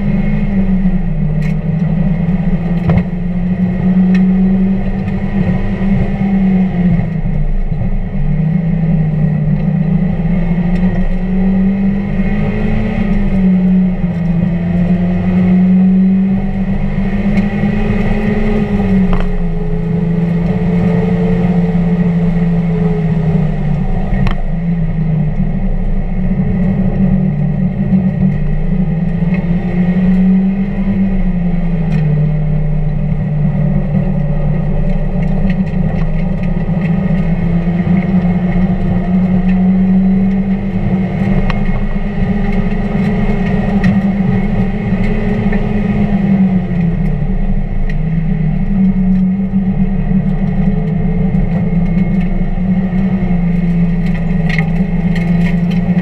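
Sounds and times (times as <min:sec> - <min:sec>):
car engine running hard: 0:00.0 - 0:56.0
road and wind noise: 0:00.0 - 0:56.0.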